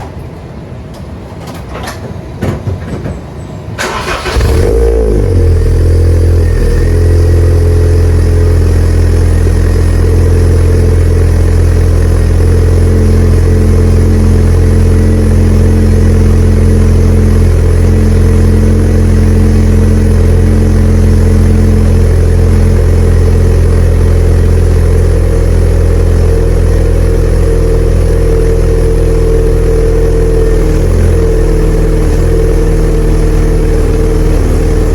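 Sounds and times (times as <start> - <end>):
car engine starting and idling: 3.8 - 34.9.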